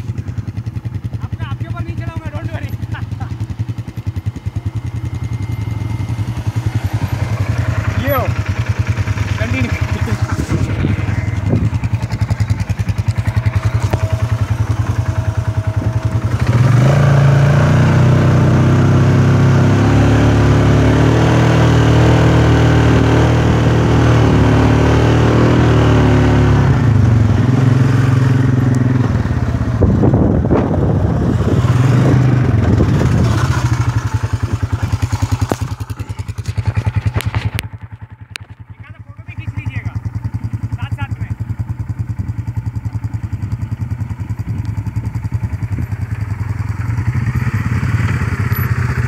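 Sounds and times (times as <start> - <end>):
quad bike engine revving: 0.0 - 49.0.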